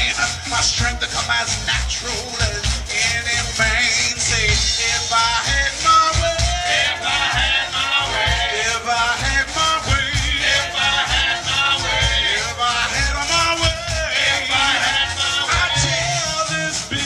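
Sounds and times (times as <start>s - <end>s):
live stage band playing: 0.0s - 17.0s
rattling percussion: 0.0s - 17.0s.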